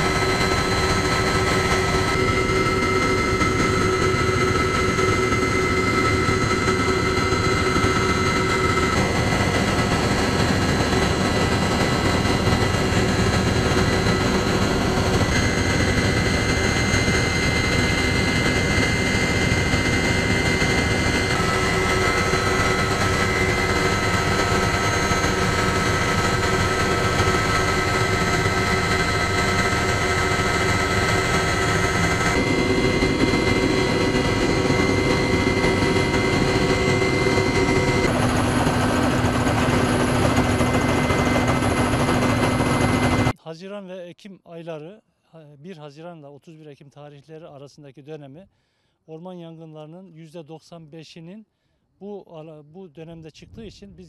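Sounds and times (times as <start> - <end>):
helicopter turbine and rotor din: 0.0 - 43.4.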